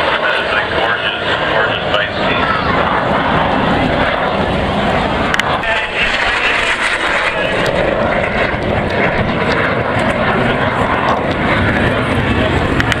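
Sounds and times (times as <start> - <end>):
airplane engine running loudly: 0.0 - 13.0.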